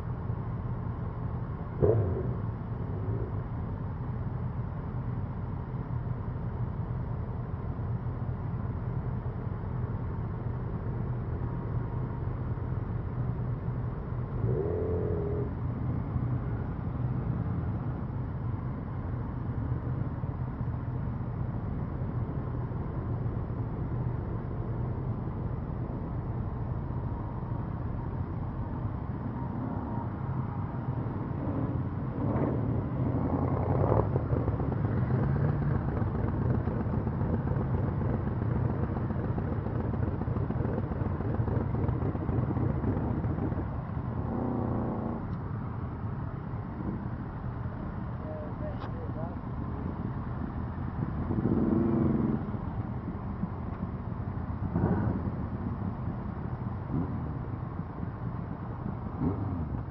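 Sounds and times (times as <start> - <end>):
motorcycle engines rumbling: 0.0 - 59.9
road noise: 0.0 - 59.9.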